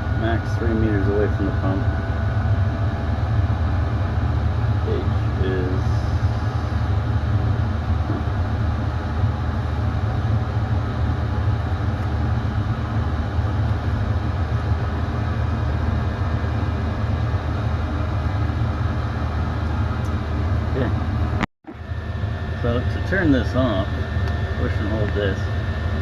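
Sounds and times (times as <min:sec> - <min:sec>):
air heater running: 0:00.0 - 0:26.0.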